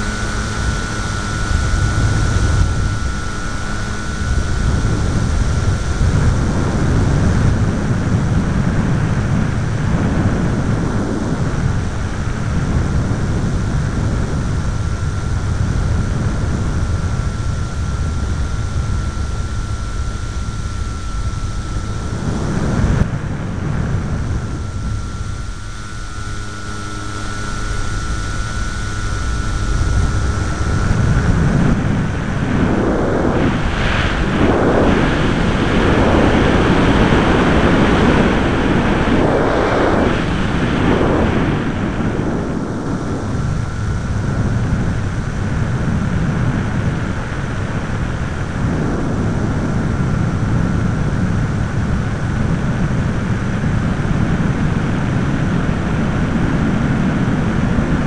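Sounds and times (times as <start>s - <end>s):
model plane motor whine: 0.0s - 58.0s
wind rushing over microphone: 0.0s - 58.0s.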